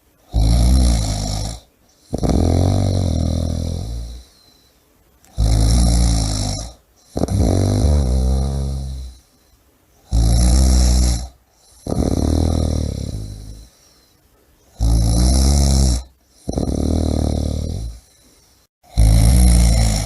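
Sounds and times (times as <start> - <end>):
person snoring heavily: 0.2 - 4.5, 5.3 - 9.4, 10.0 - 14.0, 14.8 - 20.0.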